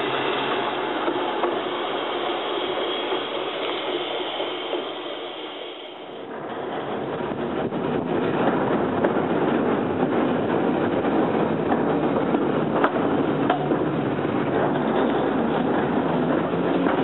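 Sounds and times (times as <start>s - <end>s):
sharp clicks of rail joints: 0.0s - 17.0s
steel wheels rumbling on rail: 0.0s - 17.0s.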